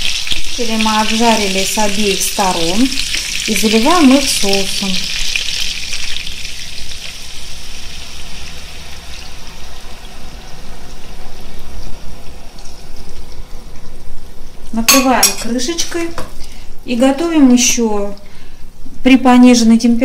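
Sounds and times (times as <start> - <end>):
meatballs sizzling in oil: 0.0 - 17.0.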